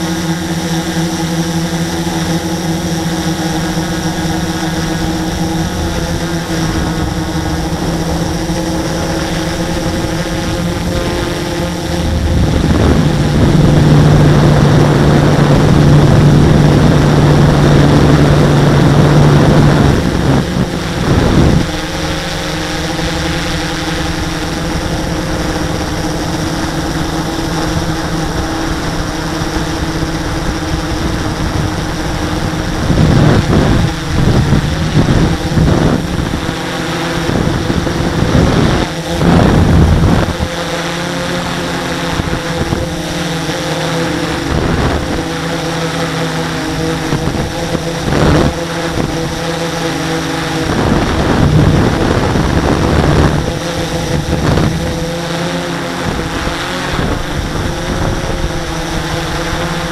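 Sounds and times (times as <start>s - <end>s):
model aircraft motor droning: 0.0s - 59.9s
wind buffeting microphone: 0.0s - 59.9s.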